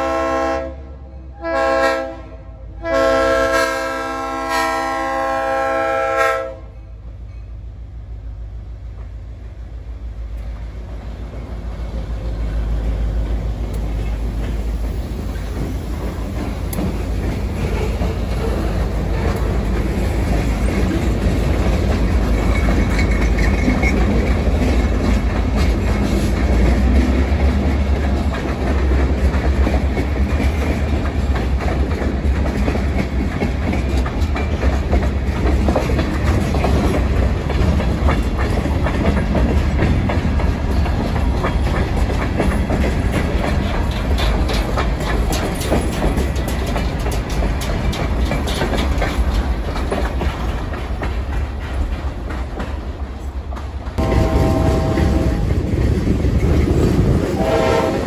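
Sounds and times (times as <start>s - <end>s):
freight train rumbling past: 0.0s - 58.0s
wheels clacking over rail joints: 10.1s - 58.0s.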